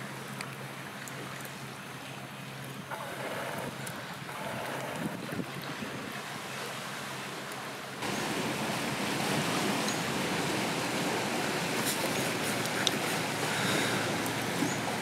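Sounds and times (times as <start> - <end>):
sea surf rushing: 2.9 - 15.0.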